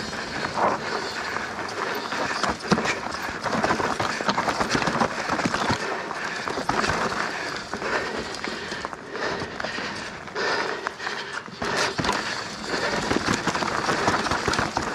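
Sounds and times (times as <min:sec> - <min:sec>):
bike knocking and rattling on rocks: 0:00.0 - 0:14.9
bike tyres crunching over rocky dirt: 0:00.0 - 0:14.9.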